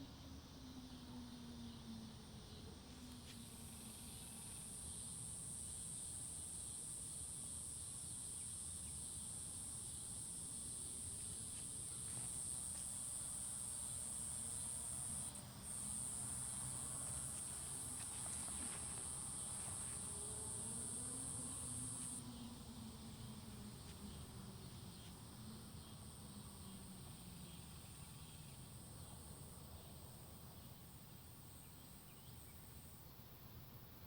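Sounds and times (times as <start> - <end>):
insects droning high-pitched: 0.0 - 34.0.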